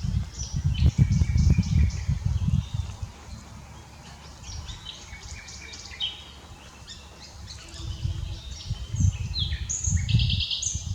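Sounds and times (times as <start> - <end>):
nightingale singing: 0.0 - 10.9.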